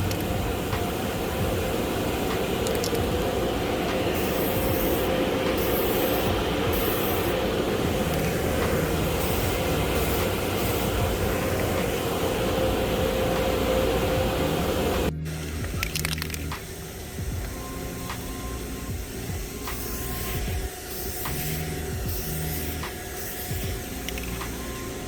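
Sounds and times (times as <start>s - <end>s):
loud mechanical hum: 0.0s - 25.0s
short hissing bursts: 0.0s - 25.0s.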